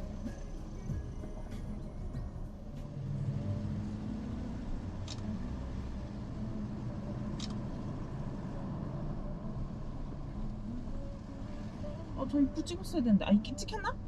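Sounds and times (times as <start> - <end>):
truck engine rumble from inside cab: 0.0 - 14.0.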